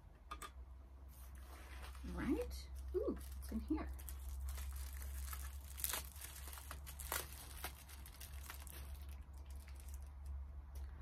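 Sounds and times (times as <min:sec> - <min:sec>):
packaging crinkling: 0:01.9 - 0:10.8.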